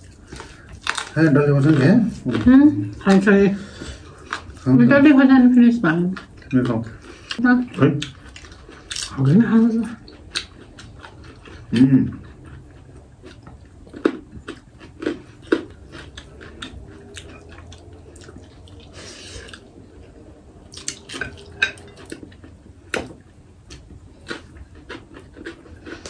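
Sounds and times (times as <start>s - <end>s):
people chewing: 0.0s - 26.0s.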